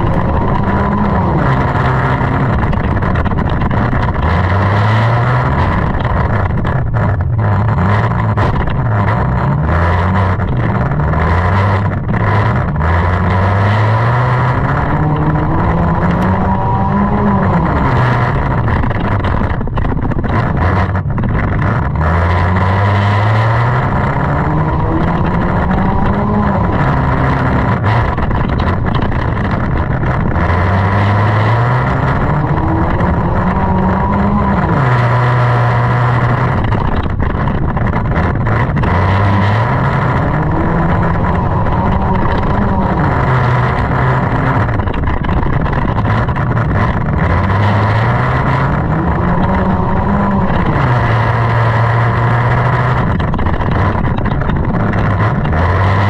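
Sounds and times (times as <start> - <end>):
constant rumble: 0.0 - 56.0
race car engine accelerating: 0.0 - 56.0.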